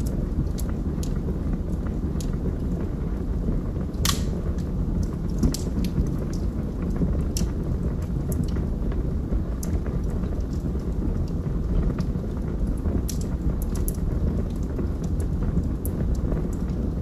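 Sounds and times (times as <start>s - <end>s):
burning wood crackling: 0.0s - 17.0s
log fire rumbling: 0.0s - 17.0s.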